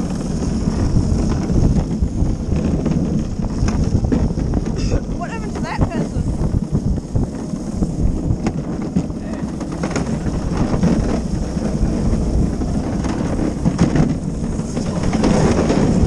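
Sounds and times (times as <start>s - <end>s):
cart wheels rumbling on pavement: 0.0s - 16.0s
wind buffeting microphone: 0.0s - 16.0s.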